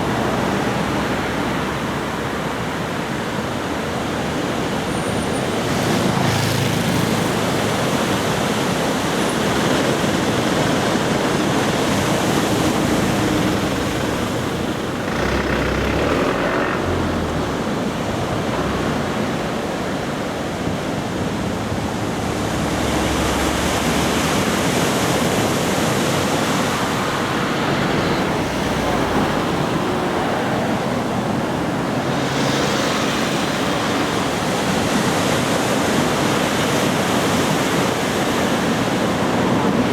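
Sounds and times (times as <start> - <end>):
surf breaking on beach: 2.5 - 39.9.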